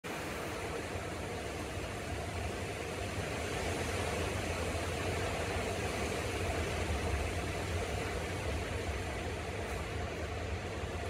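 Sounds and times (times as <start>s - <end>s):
constant hiss: 0.1s - 11.0s.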